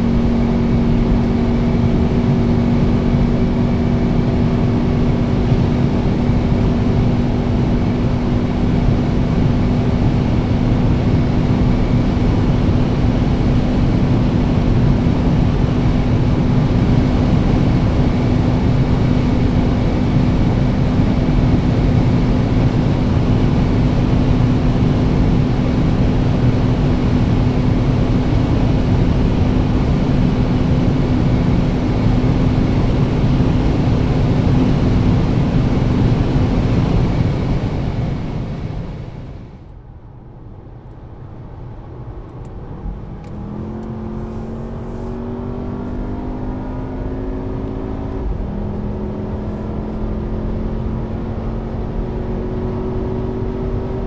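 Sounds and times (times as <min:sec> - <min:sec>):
car engine droning at high revs: 0:00.0 - 0:54.0
wind and road noise: 0:00.0 - 0:54.0.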